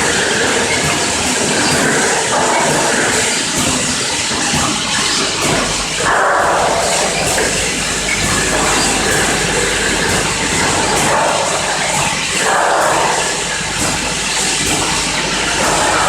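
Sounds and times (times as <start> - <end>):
bottle filling machine running: 0.0 - 16.0.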